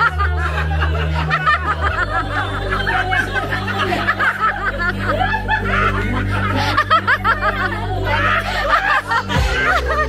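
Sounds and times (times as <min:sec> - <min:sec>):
background music with bass line: 0:00.0 - 0:10.0
crowd chattering and laughing: 0:00.0 - 0:10.0.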